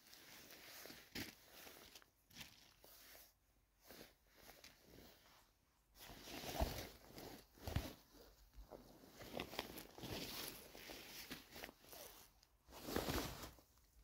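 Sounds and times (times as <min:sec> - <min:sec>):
rustling on forest floor: 0:00.0 - 0:05.3, 0:06.0 - 0:13.8.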